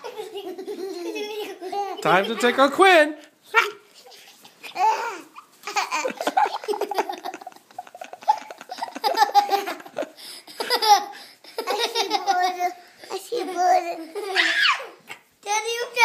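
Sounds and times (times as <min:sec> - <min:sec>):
young child laughing: 0:00.0 - 0:02.8, 0:03.6 - 0:15.3.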